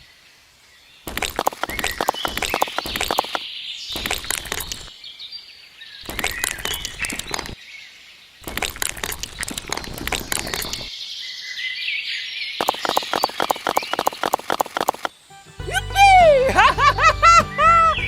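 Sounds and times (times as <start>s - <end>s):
birds chirping: 0.7s - 18.0s.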